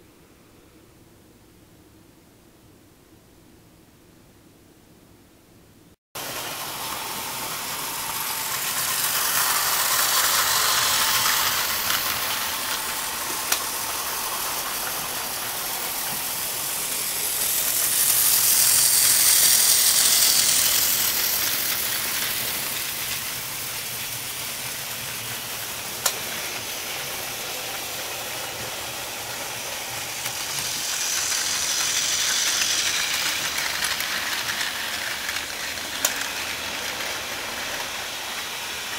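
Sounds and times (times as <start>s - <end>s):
toy train motors whirring: 6.2s - 38.9s
wheels rattling on rails: 6.2s - 38.9s.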